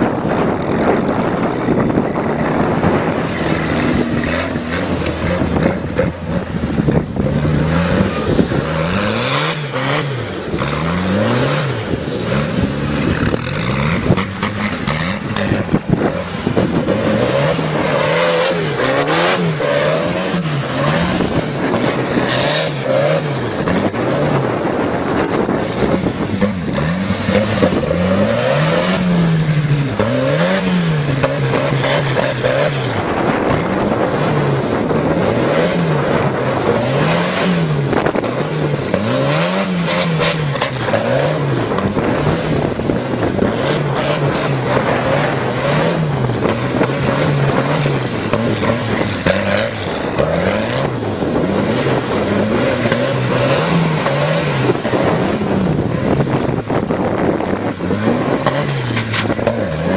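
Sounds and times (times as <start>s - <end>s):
tractor engine revving: 0.0s - 59.9s.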